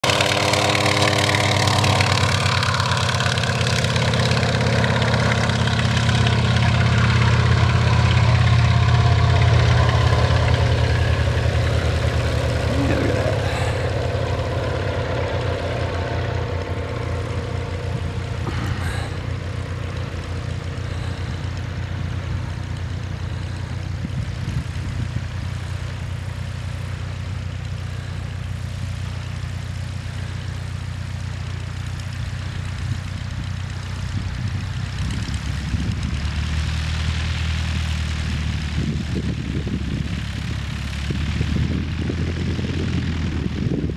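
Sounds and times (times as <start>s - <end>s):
propeller plane engine: 0.0s - 43.9s.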